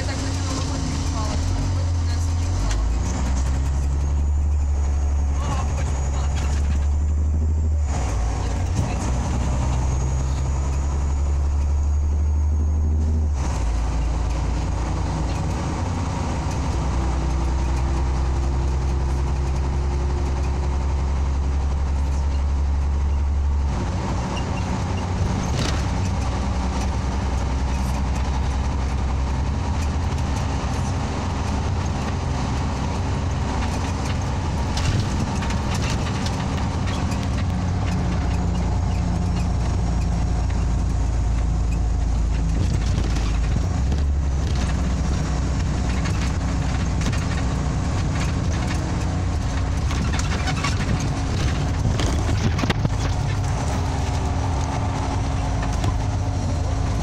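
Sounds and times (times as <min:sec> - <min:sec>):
bus engine drone: 0:00.0 - 0:57.0
tyre and road noise: 0:00.0 - 0:57.0.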